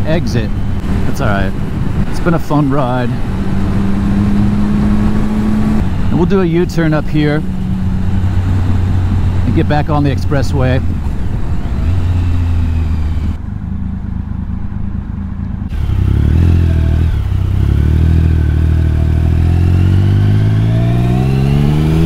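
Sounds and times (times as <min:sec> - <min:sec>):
motorcycle engine accelerating: 0:00.5 - 0:22.0.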